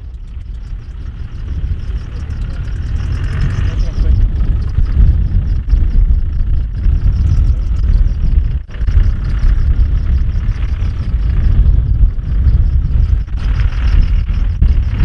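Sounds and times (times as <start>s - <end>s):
vehicle engine running: 0.0s - 15.0s
wind buffeting microphone: 0.0s - 15.0s.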